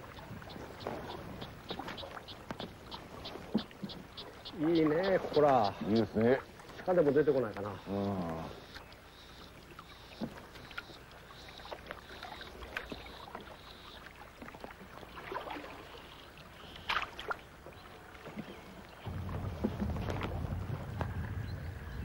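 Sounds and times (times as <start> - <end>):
paddle splashes and drips: 0.0 - 22.0.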